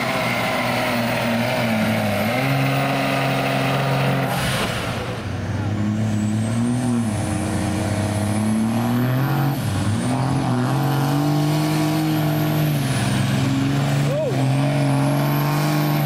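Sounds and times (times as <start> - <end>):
diesel engine under full load: 0.0 - 16.0.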